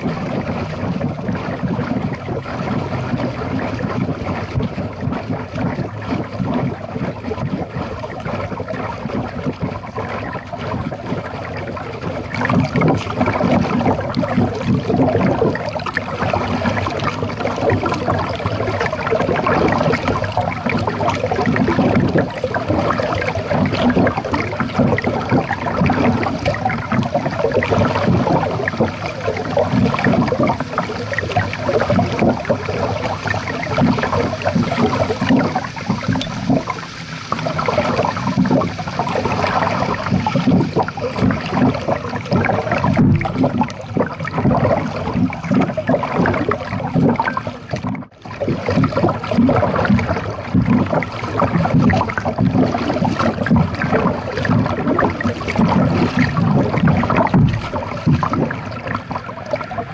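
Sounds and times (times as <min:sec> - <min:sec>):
water gurgling against kayak: 0:00.0 - 0:59.9.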